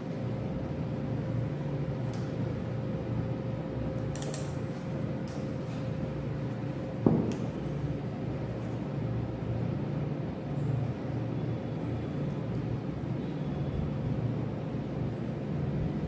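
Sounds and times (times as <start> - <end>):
faint even hum: 0.0 - 16.0
steady low rumble: 0.0 - 16.0.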